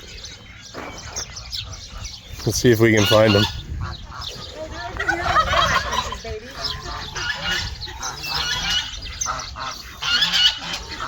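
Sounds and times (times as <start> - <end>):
ducks calling: 0.0 - 11.0
geese honking: 0.0 - 11.0.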